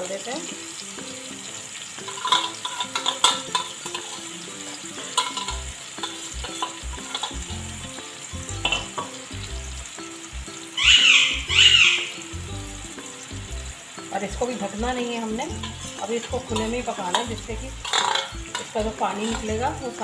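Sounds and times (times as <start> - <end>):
chicken sizzling in frying pan: 0.0 - 20.0.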